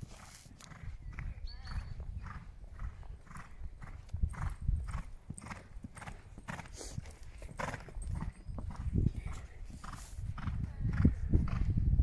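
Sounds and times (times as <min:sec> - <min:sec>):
horse hooves thudding on sand: 0:00.0 - 0:11.7.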